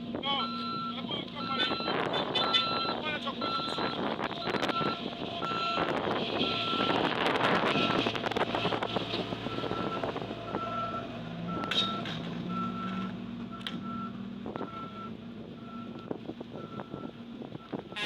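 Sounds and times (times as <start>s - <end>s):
diesel engine running: 0.0s - 18.0s
reversing alarm beeping: 0.3s - 8.1s, 9.5s - 18.0s.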